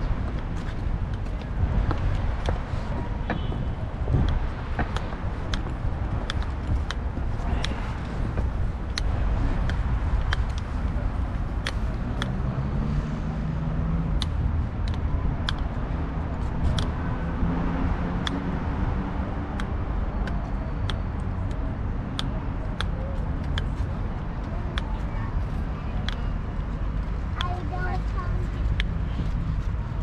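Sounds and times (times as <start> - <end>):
street traffic rumbling: 0.0 - 30.0.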